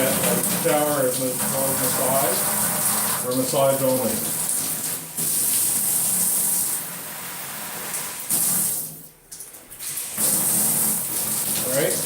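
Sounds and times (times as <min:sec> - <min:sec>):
shower head spraying water: 0:00.0 - 0:08.9, 0:09.8 - 0:12.0.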